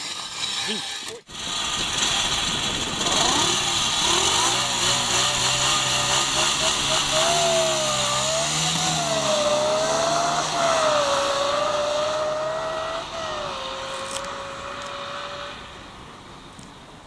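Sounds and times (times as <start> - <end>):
supercharged motorbike engine whine: 0.0 - 17.0.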